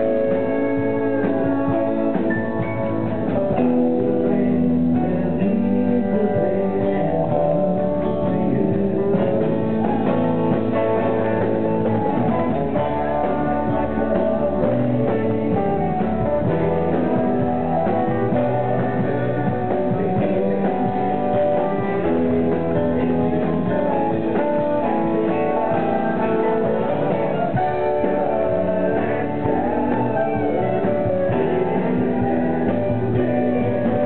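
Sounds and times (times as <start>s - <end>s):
electric guitars playing folk-rock: 0.0s - 34.0s
man singing into a microphone: 0.0s - 34.0s.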